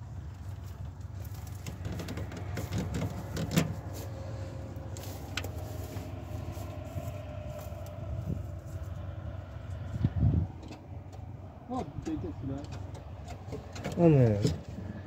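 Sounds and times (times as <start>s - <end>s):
diesel car engine idling: 0.0s - 15.0s.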